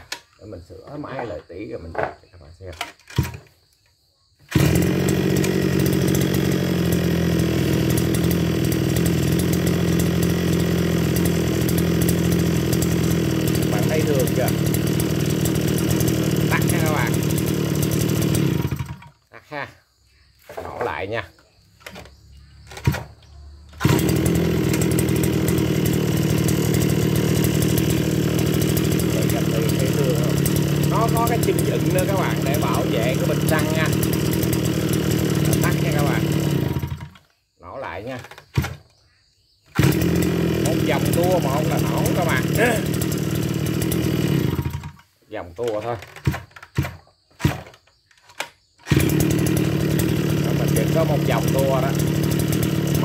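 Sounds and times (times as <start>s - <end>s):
brush cutter engine running: 2.8s - 3.5s, 4.5s - 19.2s, 21.8s - 37.3s, 37.9s - 38.9s, 39.7s - 53.0s.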